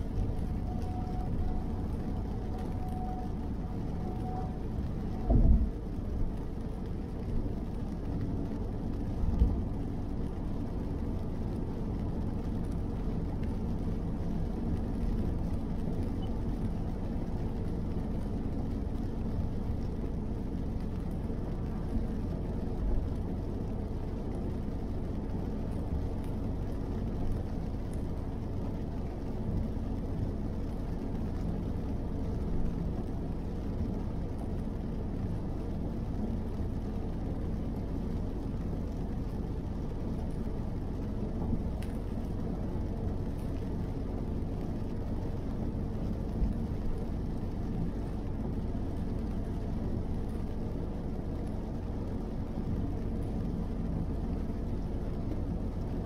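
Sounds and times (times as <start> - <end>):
tyres on wet asphalt: 0.0 - 56.0.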